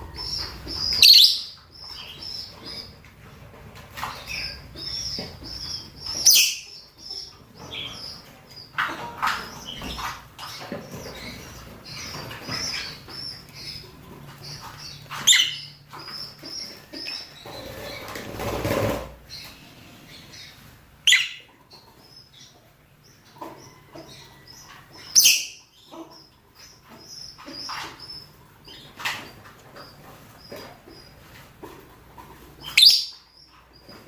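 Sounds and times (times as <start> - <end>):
lovebirds chirping: 0.0 - 18.2, 19.3 - 34.0.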